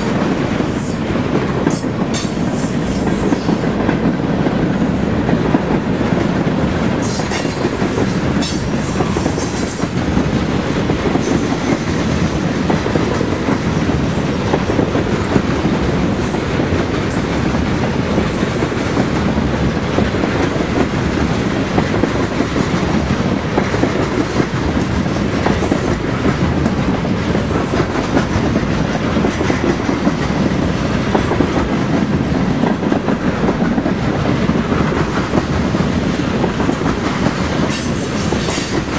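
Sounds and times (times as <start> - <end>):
steel wheels on rails: 0.0 - 38.9.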